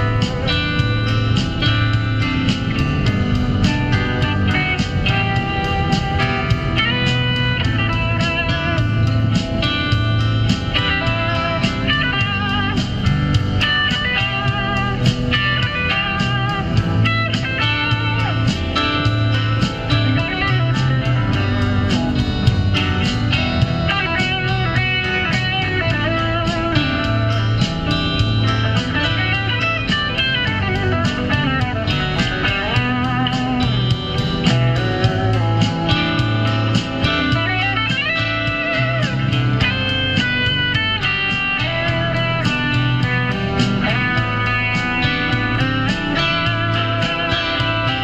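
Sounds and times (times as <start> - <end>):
blues guitar instrumental: 0.0 - 48.0
steady bass line: 0.0 - 48.0.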